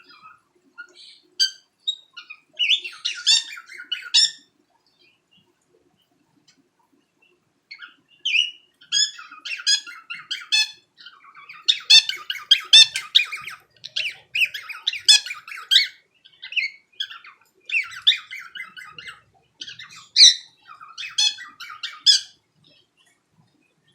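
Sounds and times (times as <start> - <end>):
cockatiel chirping and warbling: 0.0 - 4.5, 7.7 - 22.4.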